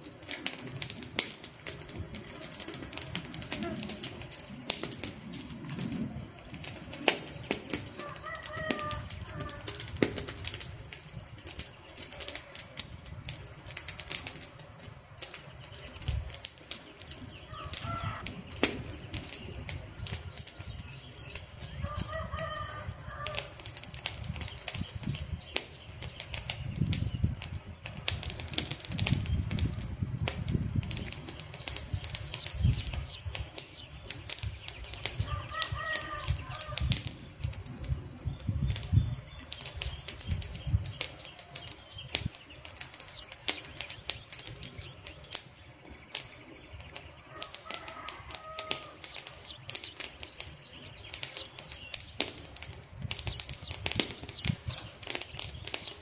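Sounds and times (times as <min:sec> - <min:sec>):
campfire crackling and popping: 0:00.0 - 0:56.0
low fluttering rush of fire: 0:00.0 - 0:56.0.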